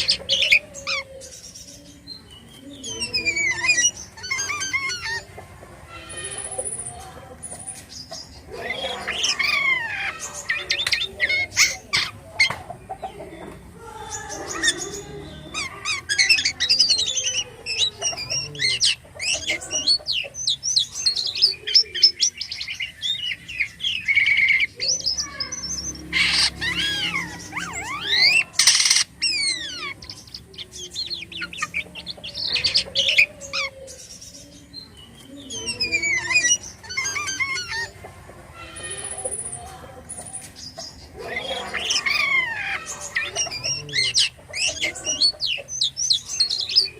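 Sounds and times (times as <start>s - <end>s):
starling singing whistles and trills: 0.0s - 46.9s.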